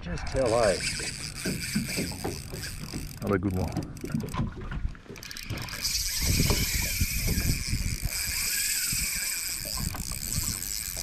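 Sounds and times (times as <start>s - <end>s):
fishing reel drag buzzing: 0.2s - 4.4s, 5.1s - 11.0s.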